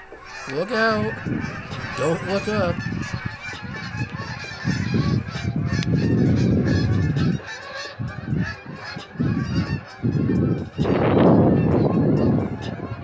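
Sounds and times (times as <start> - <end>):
geese honking: 0.0 - 13.0
wind buffeting microphone: 0.0 - 13.0.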